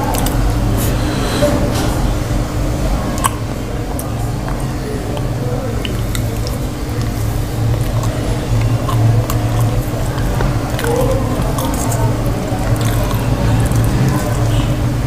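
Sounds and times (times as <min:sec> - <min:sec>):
wet squishy chewing: 0:00.0 - 0:01.0, 0:03.1 - 0:15.0
steady low hum: 0:00.0 - 0:15.0.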